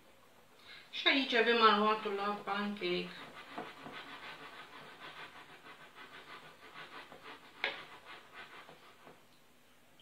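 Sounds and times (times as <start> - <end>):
whisk beating batter in a bowl: 0.0 - 9.3.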